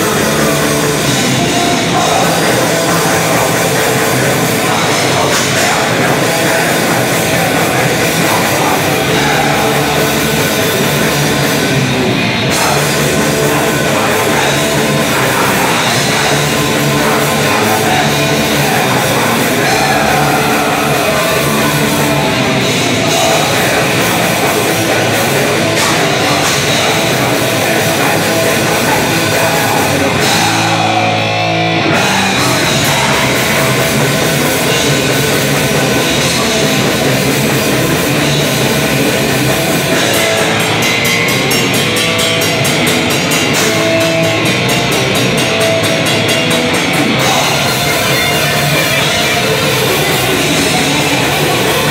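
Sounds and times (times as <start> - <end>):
distorted electric guitars: 0.0 - 51.9
drums: 0.0 - 51.9
heavy metal band playing: 0.0 - 51.9
person singing: 0.0 - 51.9.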